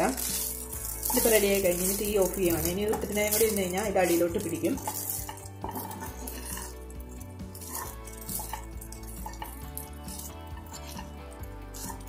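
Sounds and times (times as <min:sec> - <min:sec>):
spatula scraping a frying pan: 0:00.0 - 0:12.0.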